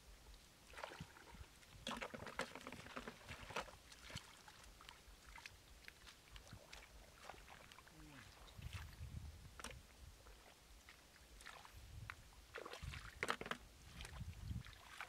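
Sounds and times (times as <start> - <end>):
small splashes in water: 0.7 - 9.0, 10.4 - 11.8, 12.5 - 15.0.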